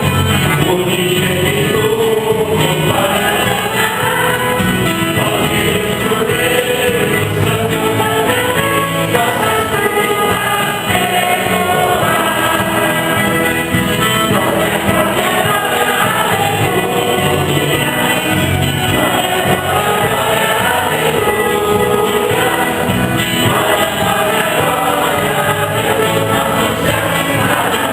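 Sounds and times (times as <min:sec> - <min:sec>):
church choir singing a hymn: 0:00.0 - 0:27.9
instrumental accompaniment: 0:00.0 - 0:27.9.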